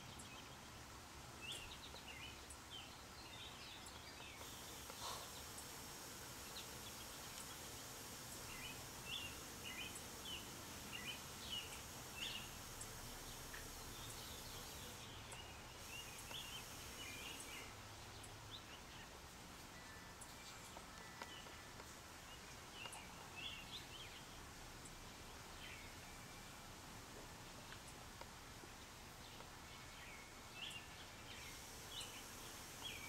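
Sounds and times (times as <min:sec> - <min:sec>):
sparrows chirping: 0:01.4 - 0:26.6, 0:28.6 - 0:33.0.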